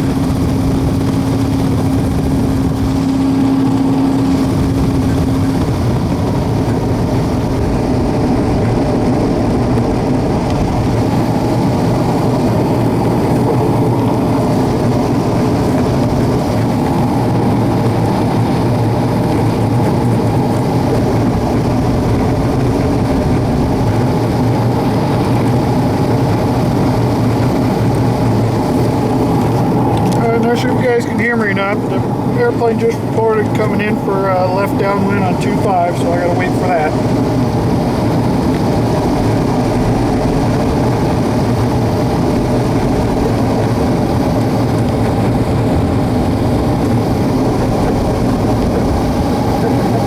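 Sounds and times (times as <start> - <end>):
airplane engine and propeller idling: 0.0 - 50.0.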